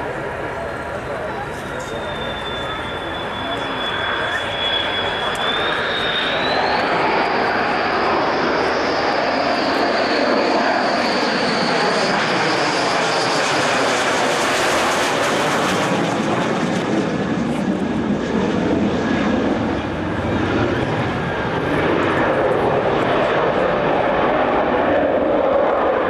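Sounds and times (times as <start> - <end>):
jet fighter flying past: 0.0 - 26.0.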